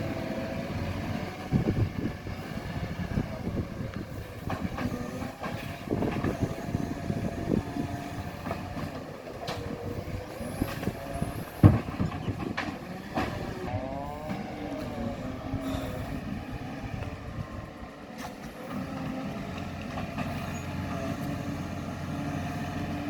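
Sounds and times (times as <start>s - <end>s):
garbage truck running: 0.0s - 23.0s.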